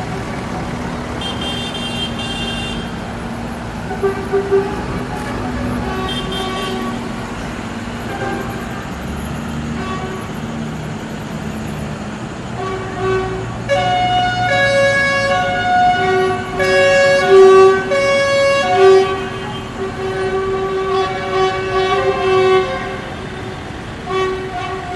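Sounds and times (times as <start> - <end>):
vehicle horns blasting: 0.0 - 3.0, 3.8 - 10.6, 12.5 - 24.9
engines rumbling: 0.0 - 24.9.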